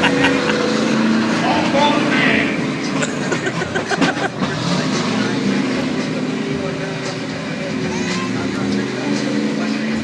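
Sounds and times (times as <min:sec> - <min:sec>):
monster truck engine running: 0:00.0 - 0:10.0.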